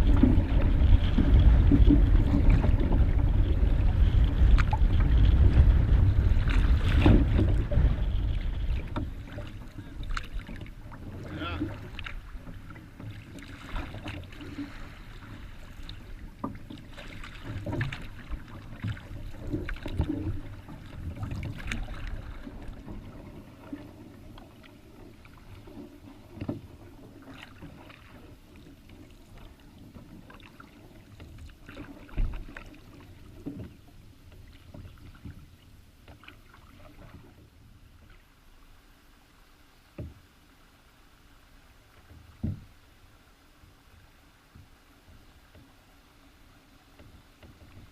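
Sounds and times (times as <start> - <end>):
canoe paddle splashes and knocks: 0.0 - 38.3, 39.9 - 40.3, 41.8 - 42.9, 46.9 - 47.9.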